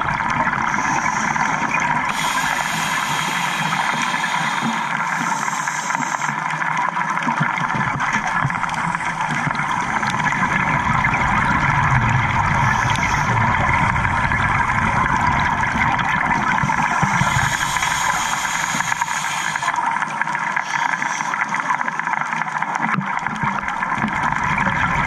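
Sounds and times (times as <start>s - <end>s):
exhaled bubbles gurgling: 0.0s - 25.0s
muffled underwater noise: 0.0s - 25.0s.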